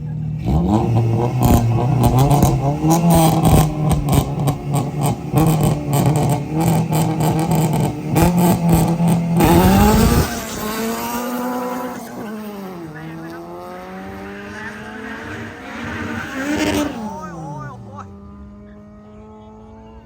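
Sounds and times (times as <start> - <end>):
engine crackles: 0.0 - 18.8
car engine revving: 0.0 - 20.0.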